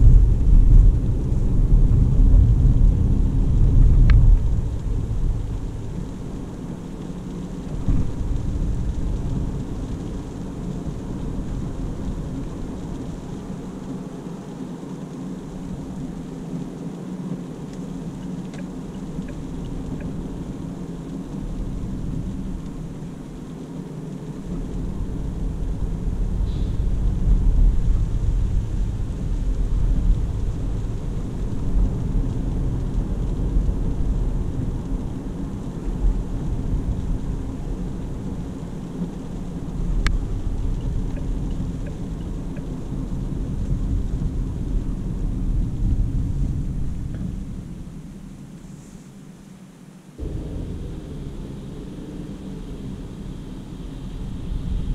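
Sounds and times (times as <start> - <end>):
tyre and road rumble in car cabin: 0.0 - 13.8, 17.2 - 47.8, 50.2 - 54.9.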